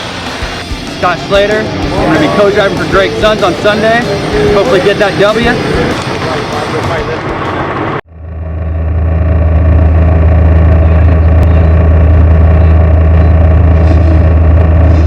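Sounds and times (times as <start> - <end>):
race vehicle engine running loud: 0.0 - 15.0.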